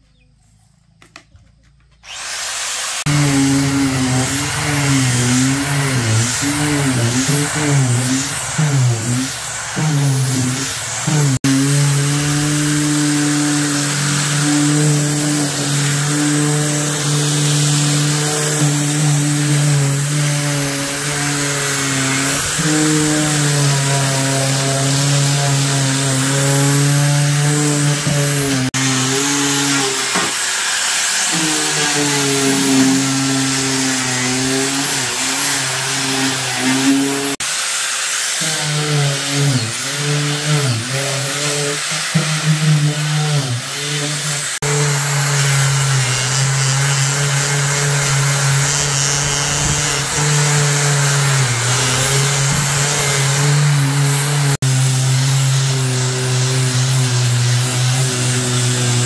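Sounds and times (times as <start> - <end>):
electric power tool running: 2.0 - 59.0.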